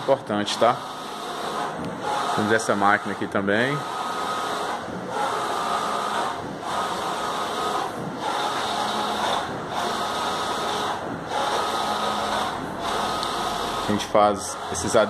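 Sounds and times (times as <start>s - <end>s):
printer carriage moving back and forth: 0.0s - 15.0s.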